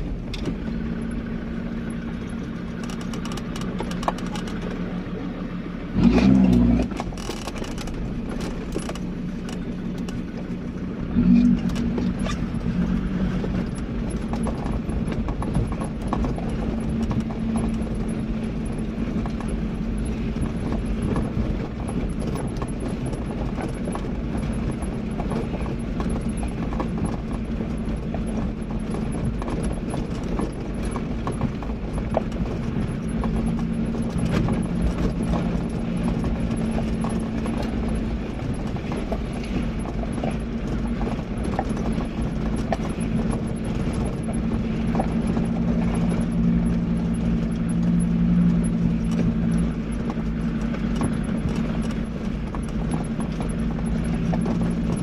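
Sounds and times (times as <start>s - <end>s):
vehicle engine droning: 0.0s - 55.0s
vehicle rattles and knocks: 0.0s - 55.0s.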